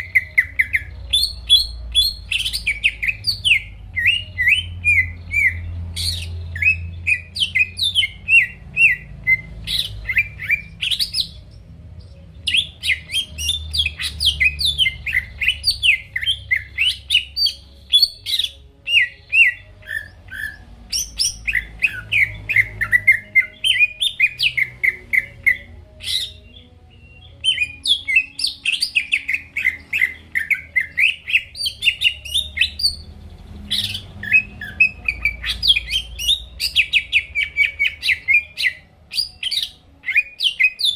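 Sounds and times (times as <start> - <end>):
bird chirping and whistling: 0.0 - 40.9.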